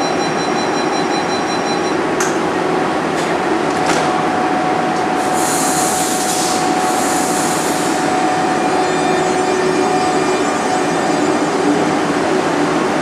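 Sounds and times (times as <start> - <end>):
standing train hum: 0.0 - 13.0.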